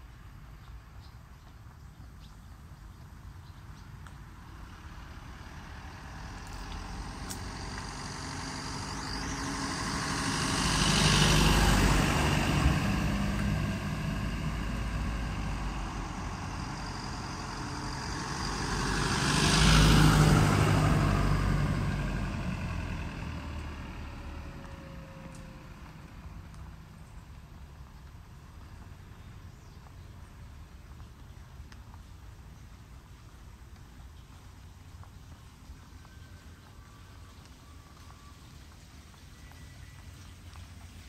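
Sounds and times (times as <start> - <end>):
motor vehicles passing: 0.0 - 41.0.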